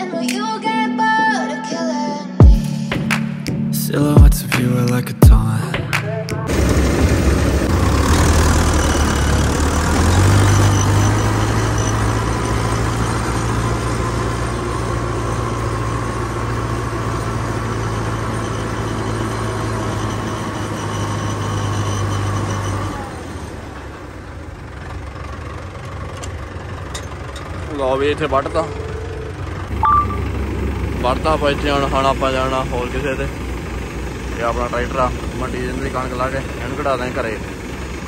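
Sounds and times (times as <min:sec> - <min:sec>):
tractor diesel engine running: 0:05.2 - 0:38.0.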